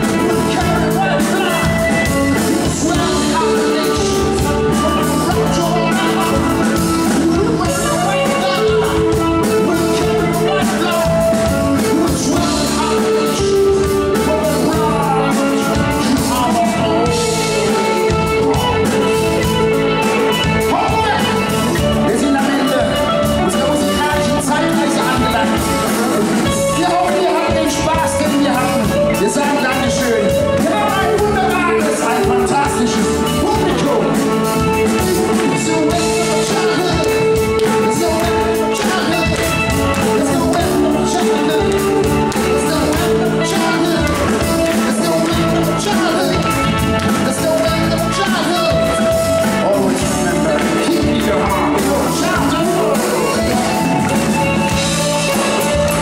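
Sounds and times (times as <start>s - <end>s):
drums: 0.0s - 56.0s
electric guitar: 0.0s - 56.0s
keyboards: 0.0s - 56.0s
person singing: 0.0s - 56.0s.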